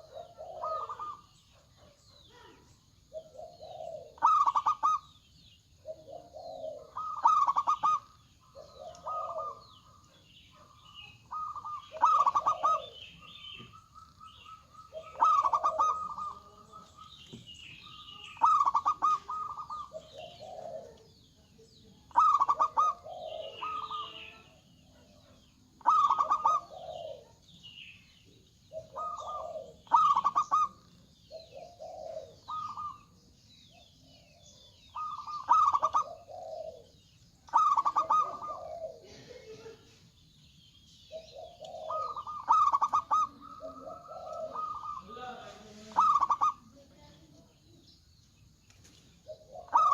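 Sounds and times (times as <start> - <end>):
doves cooing: 0.0 - 47.9, 48.9 - 49.9
small birds chirping: 0.0 - 49.9.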